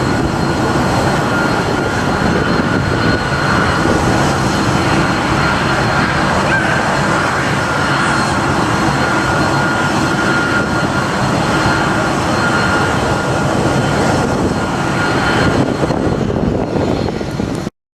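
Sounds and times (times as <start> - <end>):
high engine whine: 0.0 - 17.7
jet engine roar: 0.0 - 17.7.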